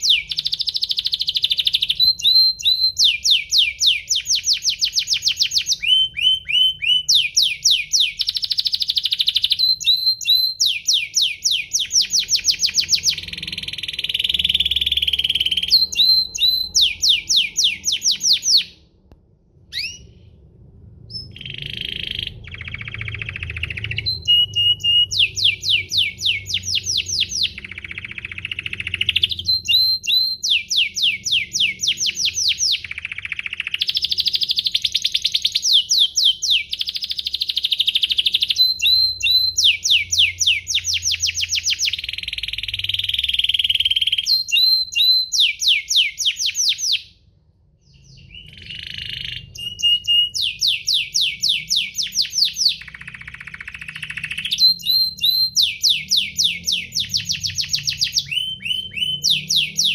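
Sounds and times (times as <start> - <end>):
canary singing trills: 0.0 - 18.8, 19.7 - 20.2, 21.0 - 47.2, 47.8 - 59.9.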